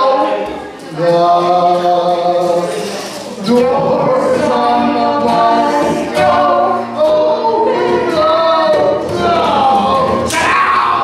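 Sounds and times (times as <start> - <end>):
adult and children singing: 0.0 - 11.0.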